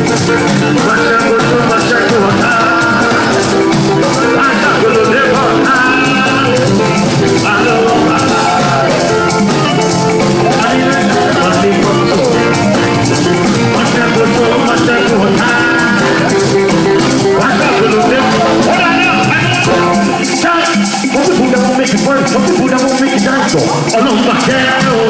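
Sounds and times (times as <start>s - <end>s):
guitar melody: 0.0s - 22.2s
drum beat: 0.0s - 25.0s.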